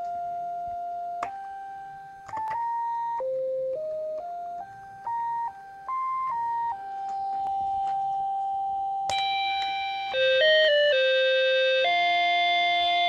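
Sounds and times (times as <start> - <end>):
electronic synthesizer melody: 0.0 - 13.0.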